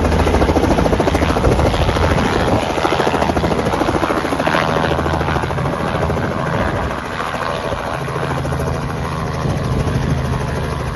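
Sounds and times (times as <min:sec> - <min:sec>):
helicopter engine hum: 0:00.0 - 0:10.9
helicopter rotor beating: 0:00.0 - 0:10.9.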